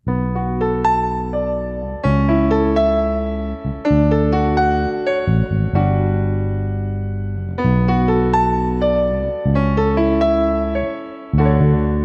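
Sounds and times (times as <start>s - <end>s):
held bass chords: 0.0s - 12.0s
keyboard melody: 0.0s - 12.0s.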